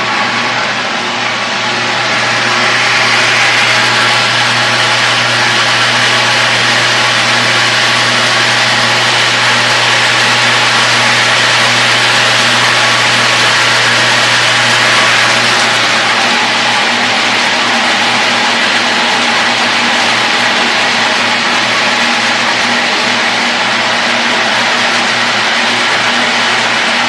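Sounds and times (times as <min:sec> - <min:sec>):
rushing noise: 0:00.0 - 0:21.8
machinery low hum: 0:00.0 - 0:27.0.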